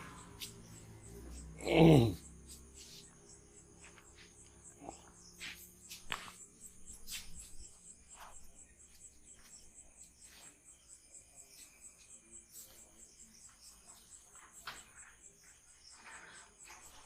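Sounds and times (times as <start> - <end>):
high-pitched insect chirping: 0.0 - 17.0.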